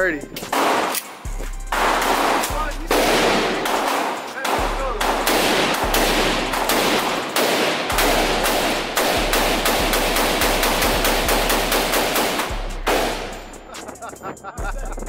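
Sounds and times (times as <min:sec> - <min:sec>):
rapid gunfire with echo: 0:00.4 - 0:13.8.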